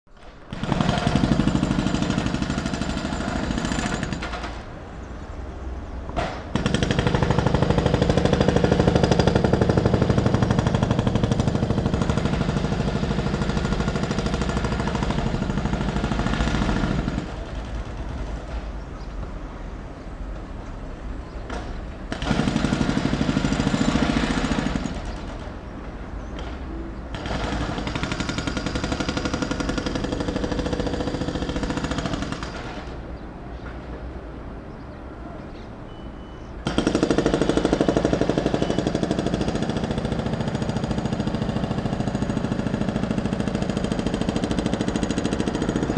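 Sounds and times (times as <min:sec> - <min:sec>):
jackhammer hammering: 0:00.2 - 0:04.7, 0:06.2 - 0:18.5, 0:21.5 - 0:25.7, 0:26.3 - 0:33.0, 0:36.6 - 0:45.9
traffic noise: 0:00.2 - 0:45.9.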